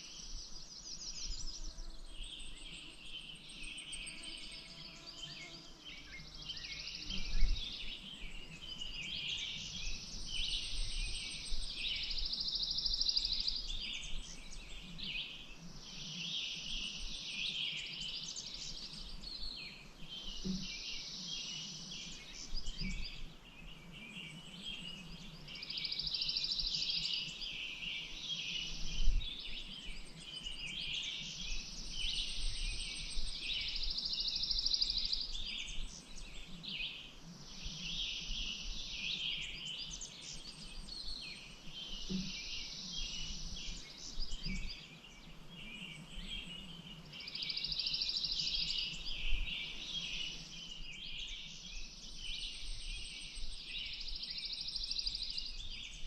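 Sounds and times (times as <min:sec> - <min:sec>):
wild birds chirping and trilling: 0:00.0 - 0:56.0.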